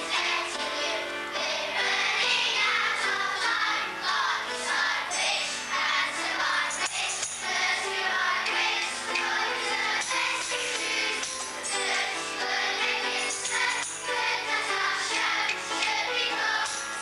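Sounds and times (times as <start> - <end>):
children singing: 0.0 - 17.0
musical accompaniment: 0.0 - 17.0.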